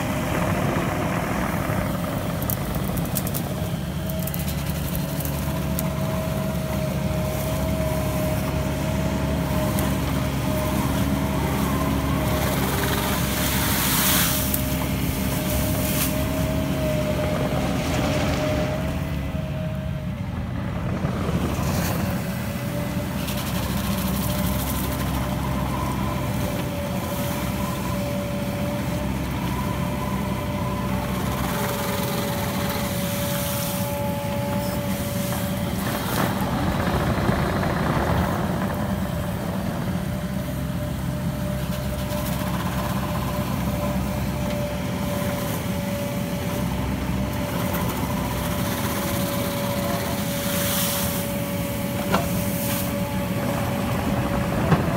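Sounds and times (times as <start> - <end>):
excavator diesel engine running: 0.0 - 54.9
steady whine: 0.0 - 54.9.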